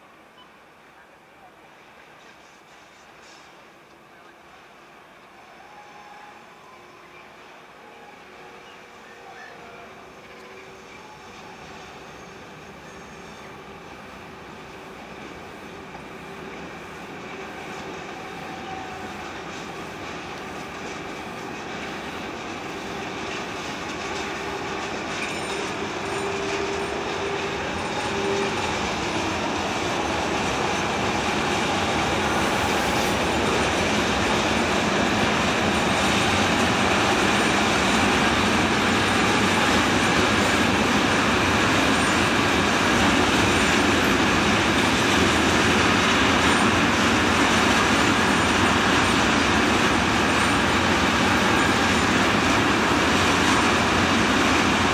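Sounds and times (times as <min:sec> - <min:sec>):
freight train wheels on rails: 0:00.0 - 0:54.9.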